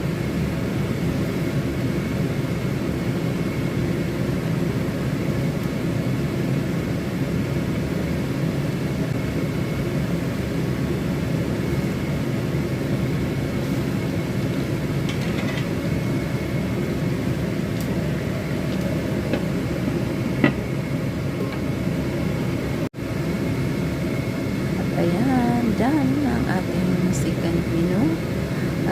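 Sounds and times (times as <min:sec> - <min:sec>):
fan whirring hum: 0:00.0 - 0:28.9.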